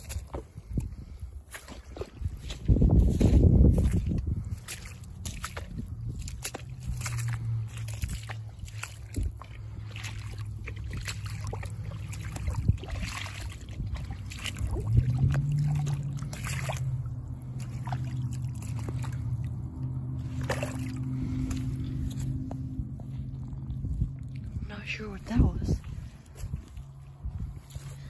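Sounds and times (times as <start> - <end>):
boots squelching through mud: 0.0 - 28.0
low steady hum: 0.0 - 28.0.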